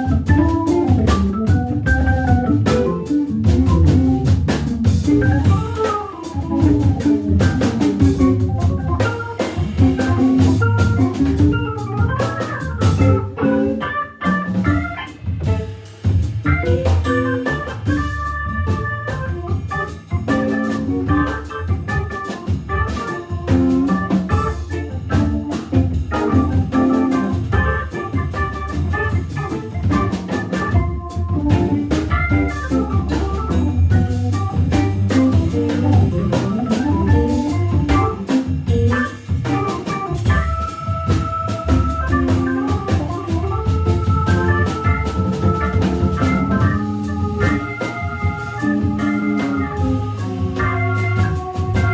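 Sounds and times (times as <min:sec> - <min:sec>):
drum kit: 0:00.0 - 0:51.9
organ playing jazz-funk: 0:00.0 - 0:51.9
walking bass line: 0:00.0 - 0:51.9.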